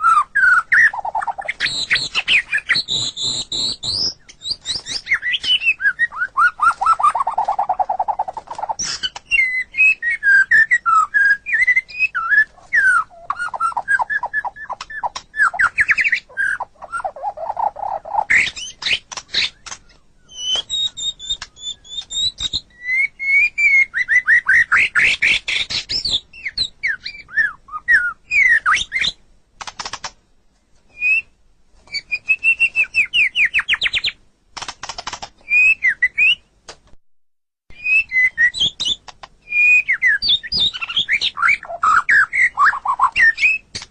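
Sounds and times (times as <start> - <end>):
bird singing whistles and trills: 0.0 - 29.2, 30.9 - 34.2, 35.4 - 36.5, 37.7 - 43.9.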